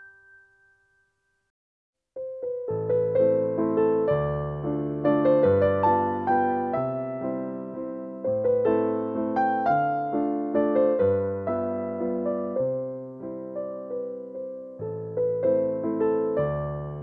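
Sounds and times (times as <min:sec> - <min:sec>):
gentle piano music: 0:00.0 - 0:01.1, 0:02.2 - 0:17.0.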